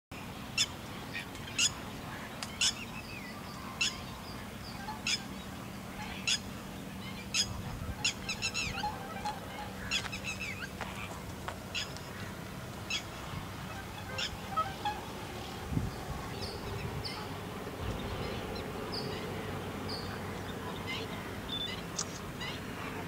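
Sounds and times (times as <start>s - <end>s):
steady low hum: 0.2s - 23.0s
bird call notes: 0.5s - 22.6s.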